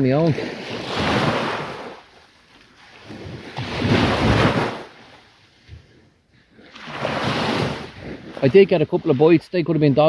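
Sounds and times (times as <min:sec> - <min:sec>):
surf washing on beach: 0:00.0 - 0:06.0, 0:06.6 - 0:10.0.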